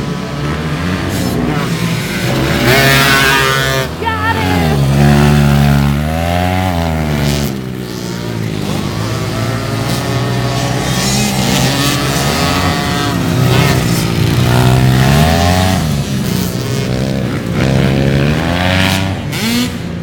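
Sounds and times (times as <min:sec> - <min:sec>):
atv engines revving: 0:00.0 - 0:20.0.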